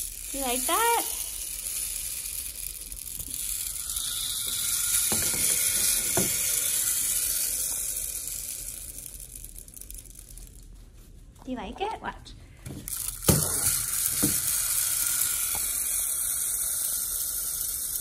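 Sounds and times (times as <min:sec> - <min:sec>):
beads rushing in rain stick: 0:00.0 - 0:11.0, 0:12.8 - 0:18.0.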